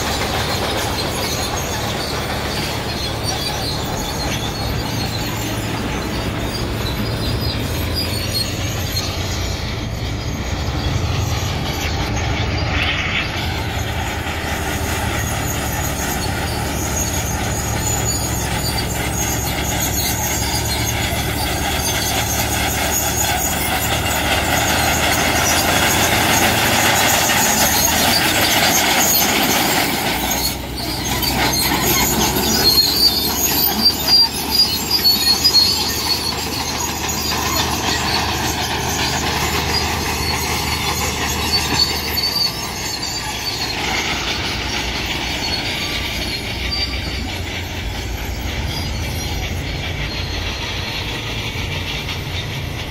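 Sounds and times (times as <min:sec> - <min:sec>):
heavy machinery engine rumble: 0:00.0 - 0:52.9
high-pitched metallic tones: 0:00.0 - 0:52.9.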